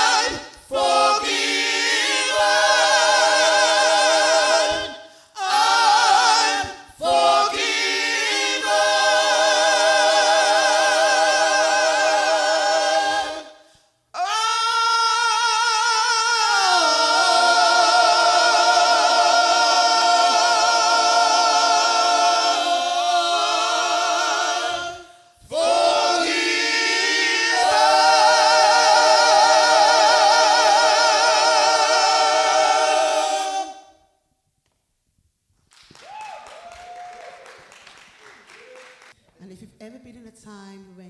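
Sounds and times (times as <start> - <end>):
choir singing a cappella: 0.0 - 34.2.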